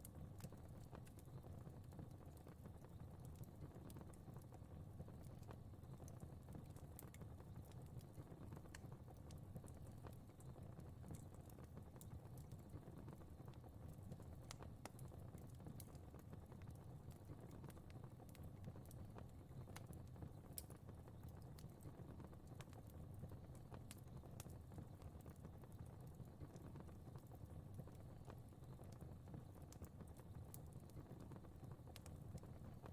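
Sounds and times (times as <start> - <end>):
fire crackling and popping: 0.0 - 32.9
flames rumbling: 0.2 - 32.9.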